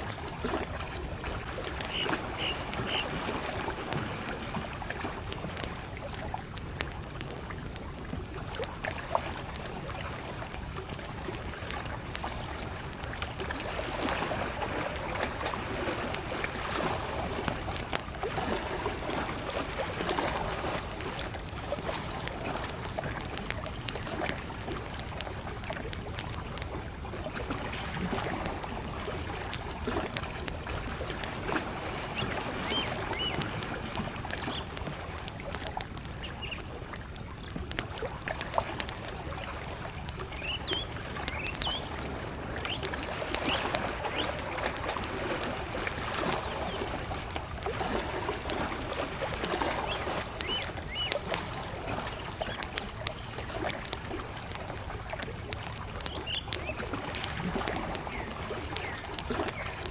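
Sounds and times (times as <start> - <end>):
campfire crackling: 0.0 - 59.9
lake waves lapping at shore: 0.0 - 59.9.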